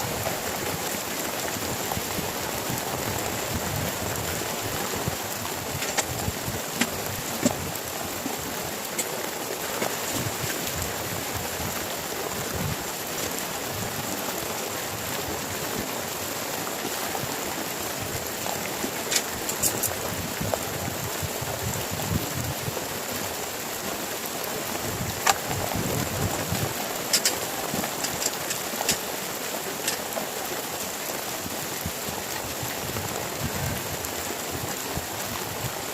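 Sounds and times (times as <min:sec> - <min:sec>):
heavy rain hissing: 0:00.0 - 0:35.9
sharp rain taps: 0:00.0 - 0:35.9.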